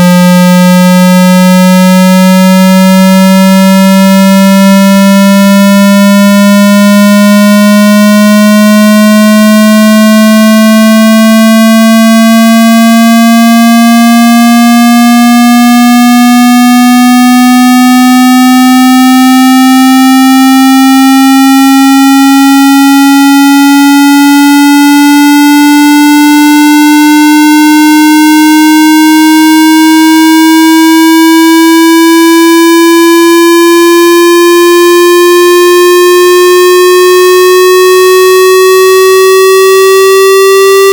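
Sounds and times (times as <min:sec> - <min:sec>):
rising square-wave test tone: 0:00.0 - 0:40.9.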